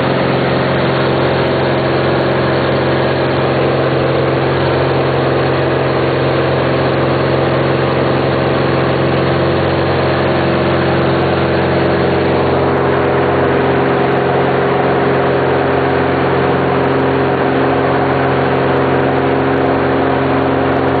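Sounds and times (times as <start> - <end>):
propeller plane engine from cabin: 0.0 - 21.0.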